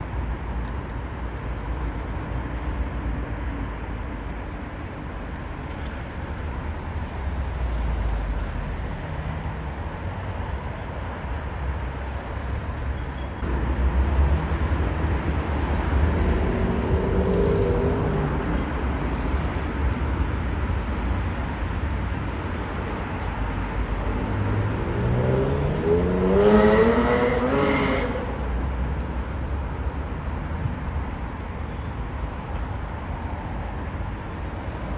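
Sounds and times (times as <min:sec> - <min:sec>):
car and road noise rumble: 0:00.0 - 0:34.9.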